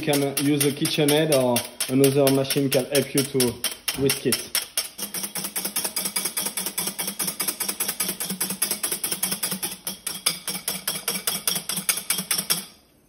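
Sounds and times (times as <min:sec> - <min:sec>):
whisk clicking against glass bowl: 0:00.0 - 0:12.8.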